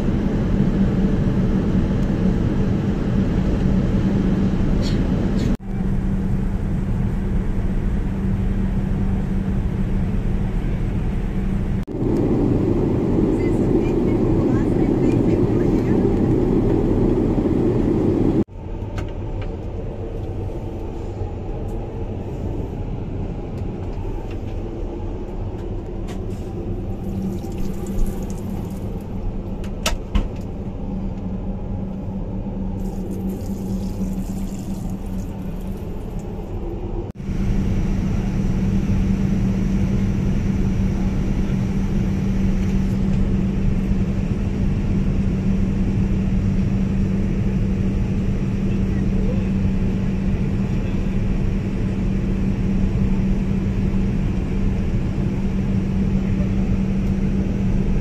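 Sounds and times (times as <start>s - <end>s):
airliner cabin rumble and hum: 0.0s - 58.0s.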